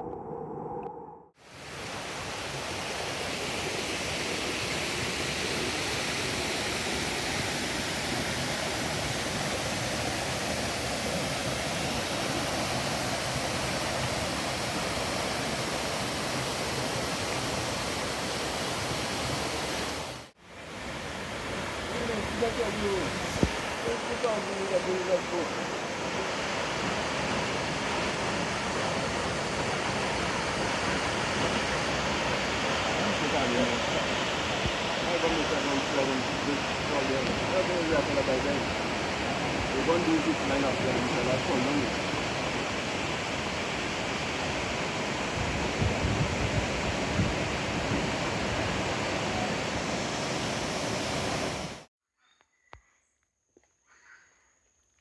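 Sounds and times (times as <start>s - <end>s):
waterfall rushing: 1.5s - 45.8s, 46.4s - 51.9s.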